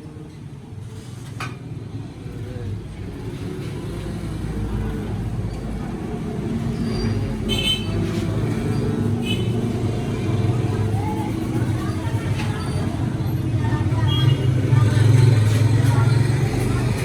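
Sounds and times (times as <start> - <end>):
faint voices: 2.0 - 17.0.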